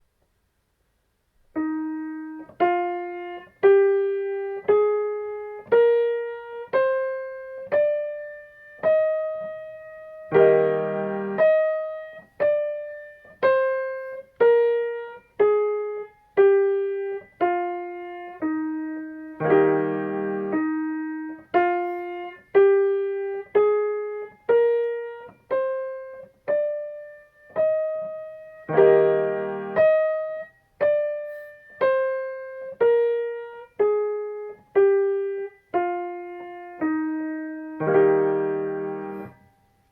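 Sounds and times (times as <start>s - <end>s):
keyboard chord: 1.6s - 39.6s.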